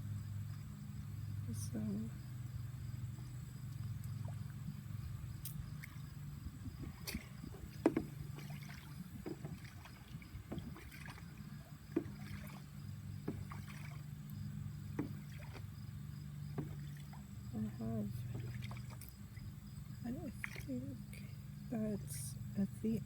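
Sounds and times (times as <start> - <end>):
steady low hum: 0.0 - 23.0
waterfowl splashing in water: 2.6 - 21.3.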